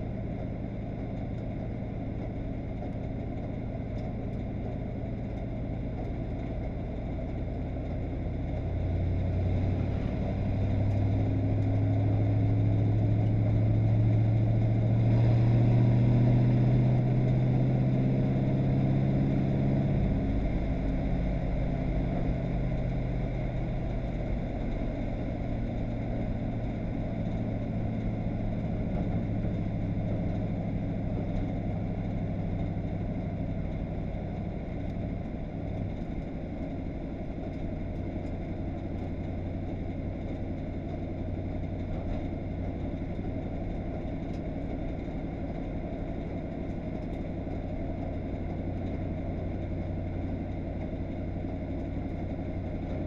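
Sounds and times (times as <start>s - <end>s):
race car engine: 0.0s - 53.0s.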